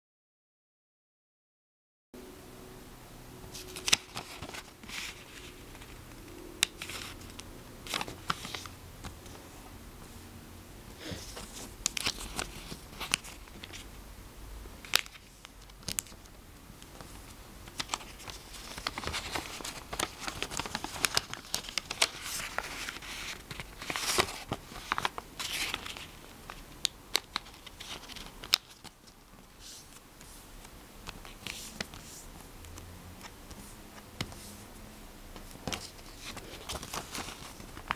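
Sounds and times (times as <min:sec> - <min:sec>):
paper folding and crinkling: 0:03.5 - 0:09.5, 0:11.0 - 0:14.0, 0:14.8 - 0:37.9.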